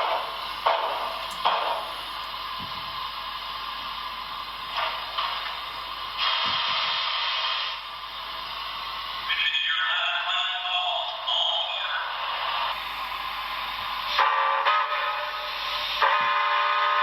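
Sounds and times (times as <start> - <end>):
steam hiss from small speaker: 0.0 - 9.4, 11.8 - 17.0.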